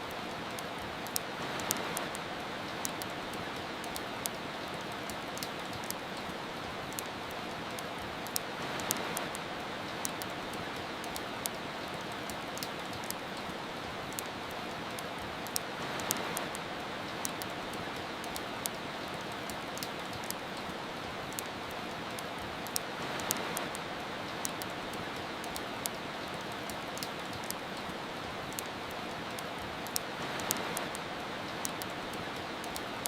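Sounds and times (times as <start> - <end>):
steady rain: 0.0 - 33.0
wood fire crackling: 0.0 - 33.0.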